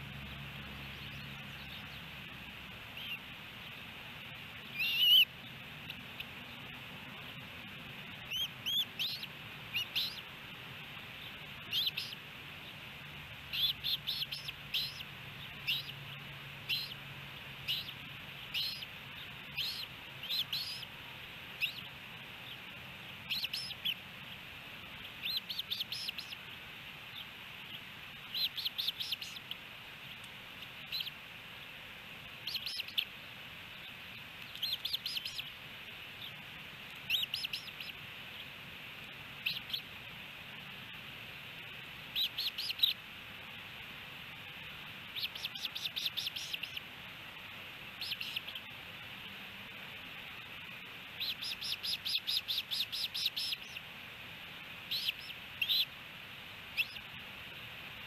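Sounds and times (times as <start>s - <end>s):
ospreys chirping: 0.0s - 58.0s.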